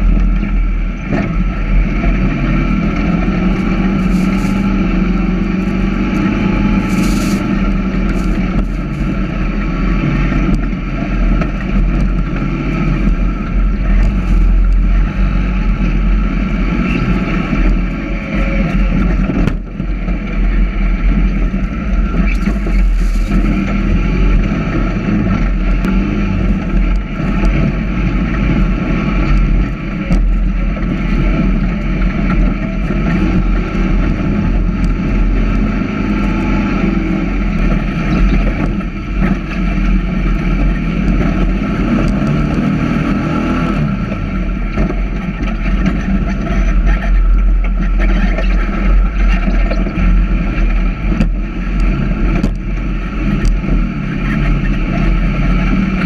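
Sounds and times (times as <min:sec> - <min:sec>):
buggy engine running hard: 0:00.0 - 0:56.0.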